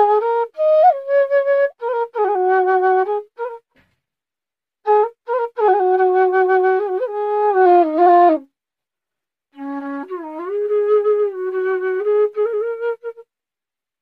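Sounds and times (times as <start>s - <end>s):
slow solo flute melody: 0.0s - 3.9s, 4.8s - 8.6s, 9.5s - 13.4s.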